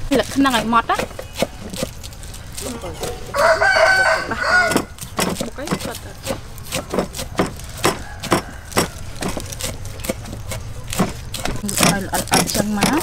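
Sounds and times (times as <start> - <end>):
cleavers chopping on wooden boards: 0.2 - 2.2, 4.2 - 13.0.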